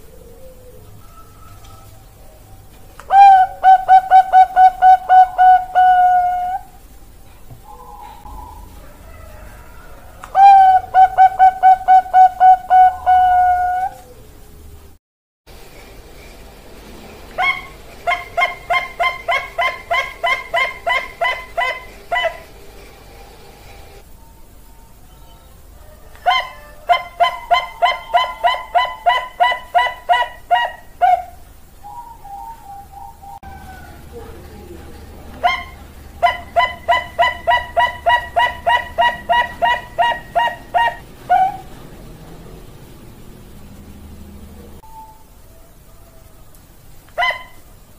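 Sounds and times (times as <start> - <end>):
dove cooing: 0.0 - 14.7, 17.4 - 22.6, 25.8 - 46.4.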